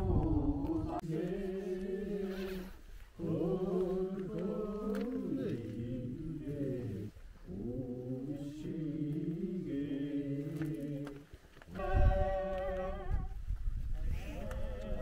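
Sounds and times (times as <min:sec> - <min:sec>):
men chanting in low voices: 0:00.0 - 0:13.4, 0:14.1 - 0:15.0.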